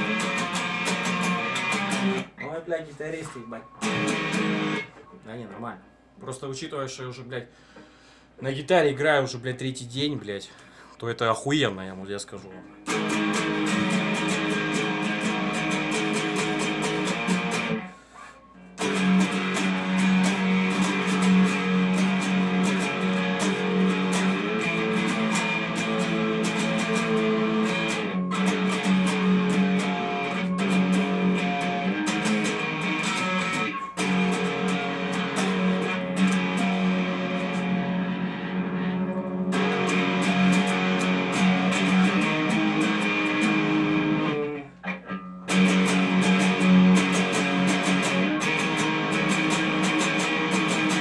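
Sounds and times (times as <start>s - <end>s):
electric guitar punk riffs: 0.0s - 5.1s, 12.7s - 51.0s.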